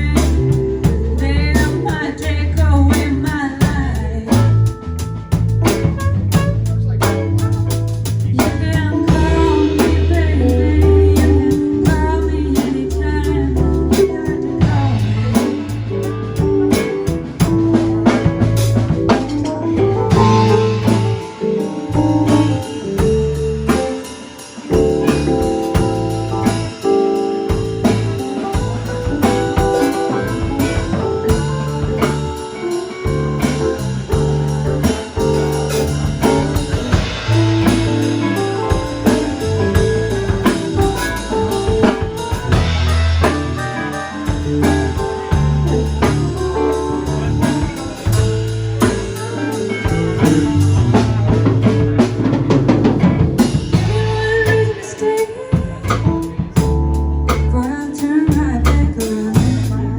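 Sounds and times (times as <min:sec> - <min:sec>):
band playing blues: 0:00.0 - 0:59.9
bass: 0:00.0 - 0:59.9
drum kit: 0:00.0 - 0:59.9
electric guitar: 0:00.0 - 0:59.9.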